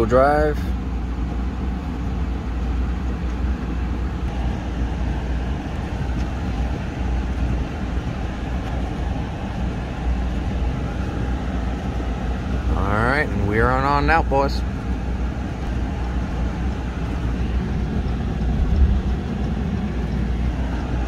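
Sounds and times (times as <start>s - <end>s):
truck engine and tyres rumbling: 0.0s - 21.0s.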